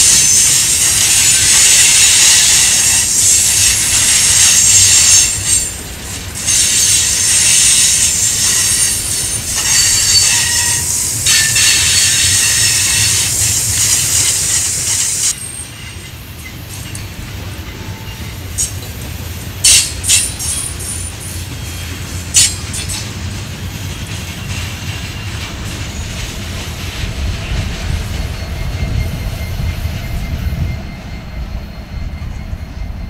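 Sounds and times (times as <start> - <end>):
high wheel squeal: 0.0 - 18.8, 19.6 - 23.1, 24.2 - 33.0
freight train wheels rolling on rails: 0.0 - 33.0.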